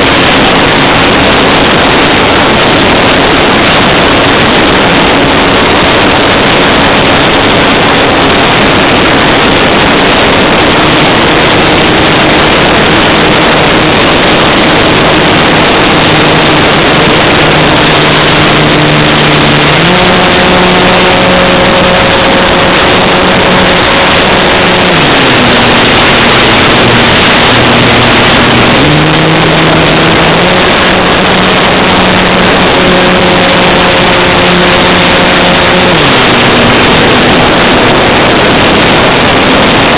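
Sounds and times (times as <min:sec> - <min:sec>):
model aeroplane motor humming: 0:00.0 - 0:39.9
rushing noise: 0:00.0 - 0:39.9.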